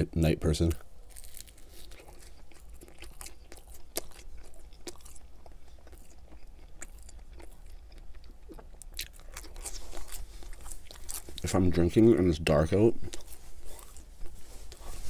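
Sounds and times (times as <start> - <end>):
person chewing close up: 1.0 - 11.7, 13.0 - 15.0.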